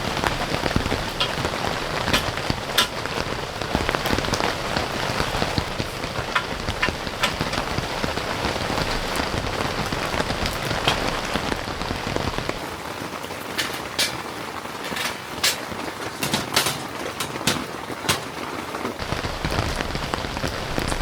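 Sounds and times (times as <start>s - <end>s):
heavy rain falling: 0.0s - 21.0s
raindrops striking close by: 0.0s - 21.0s.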